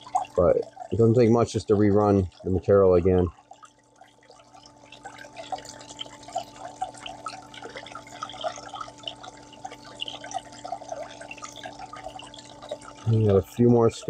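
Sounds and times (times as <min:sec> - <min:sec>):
small water pump humming: 0:00.0 - 0:14.0
water gurgling and dripping: 0:00.0 - 0:14.0.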